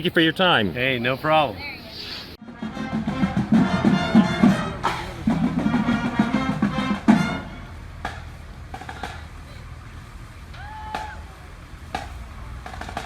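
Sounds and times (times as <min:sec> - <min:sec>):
brass and drums music: 0:02.4 - 0:13.0.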